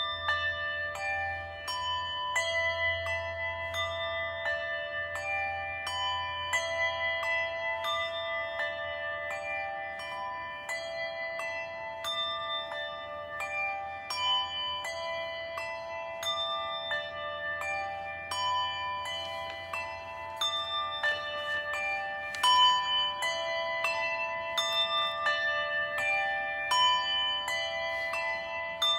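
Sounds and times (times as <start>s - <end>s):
bells ringing at several pitches: 0.0s - 28.9s.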